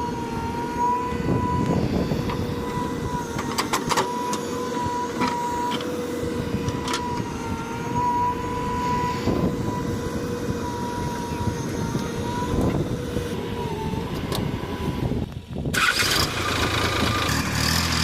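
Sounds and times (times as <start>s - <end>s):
backhoe loader engine whining: 0.0s - 18.0s.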